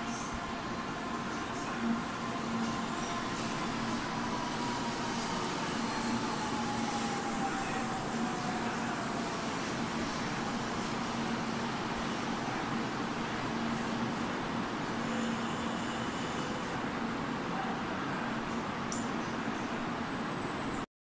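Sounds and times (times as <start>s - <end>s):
train running noise: 0.0s - 20.8s.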